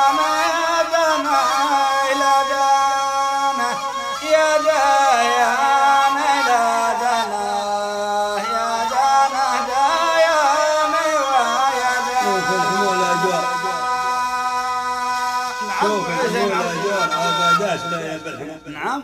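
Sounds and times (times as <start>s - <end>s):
held accompaniment notes: 0.0s - 19.0s
man singing: 0.0s - 19.0s.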